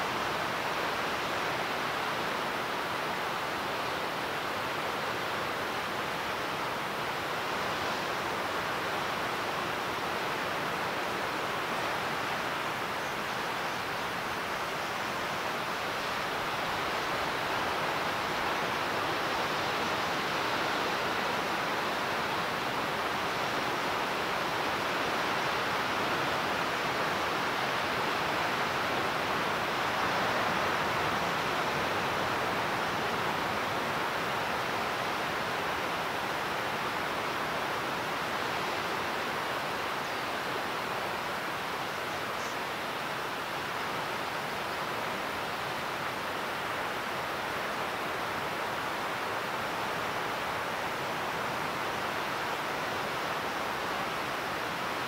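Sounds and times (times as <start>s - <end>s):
steady rushing outdoor noise: 0.0s - 55.0s.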